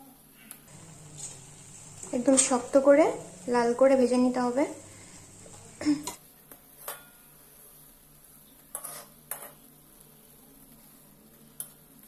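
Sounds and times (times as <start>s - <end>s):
bread frying in oil: 0.6s - 12.0s.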